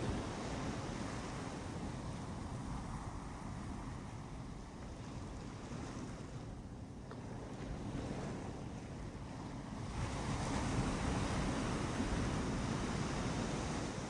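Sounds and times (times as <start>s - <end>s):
waves breaking on beach: 0.0s - 14.0s.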